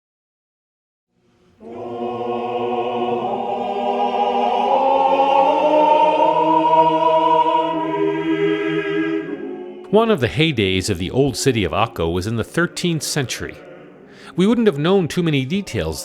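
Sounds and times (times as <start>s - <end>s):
choir singing long chords: 1.2s - 16.0s.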